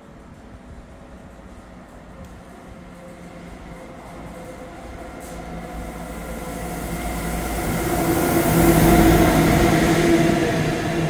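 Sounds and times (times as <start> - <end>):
train approaching with rumble: 0.0 - 11.0.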